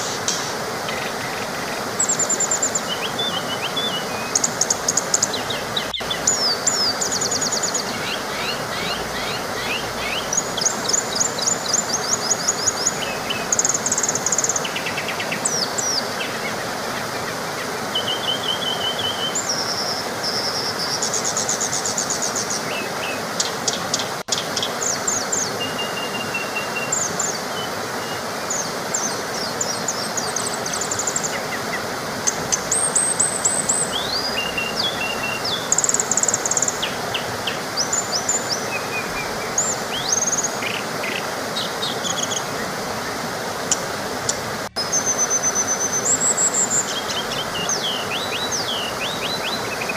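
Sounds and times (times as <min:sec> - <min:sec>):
small waterfall rushing: 0:00.0 - 0:49.9
songbirds chirping and trilling: 0:00.0 - 0:49.9.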